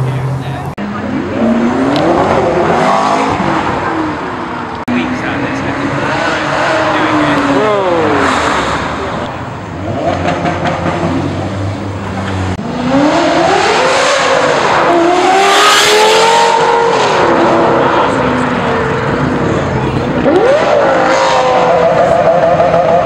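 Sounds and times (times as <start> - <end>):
car engines revving and accelerating: 0.0 - 23.0.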